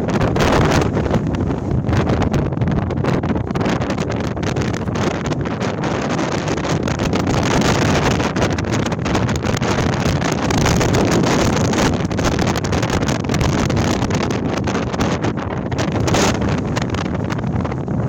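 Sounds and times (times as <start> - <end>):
strong wind rushing: 0.0 - 18.0
wind buffeting on microphone: 0.0 - 18.0.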